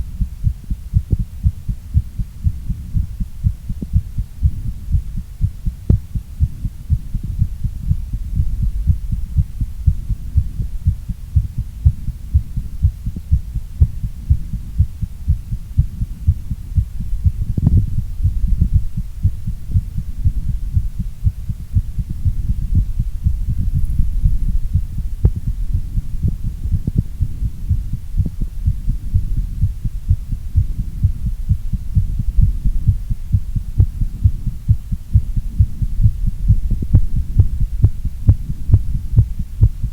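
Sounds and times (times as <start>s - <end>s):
fast heartbeat: 0.0s - 39.9s
low hum: 0.0s - 39.9s.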